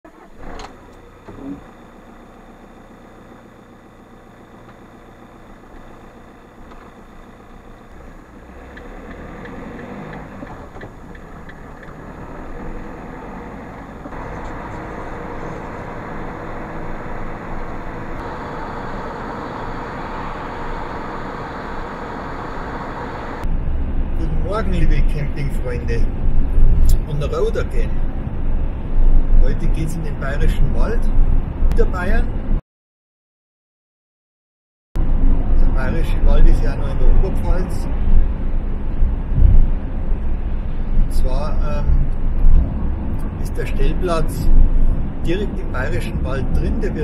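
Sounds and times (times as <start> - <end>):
van engine and road noise: 0.0 - 32.6, 35.0 - 47.0.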